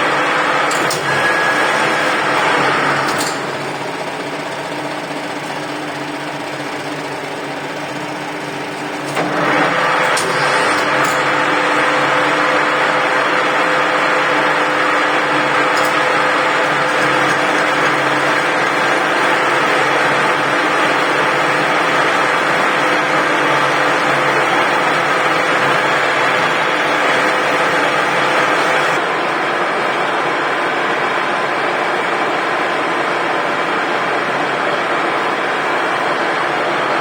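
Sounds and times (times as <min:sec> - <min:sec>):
metalworking machine motor hum: 0:00.0 - 0:37.0.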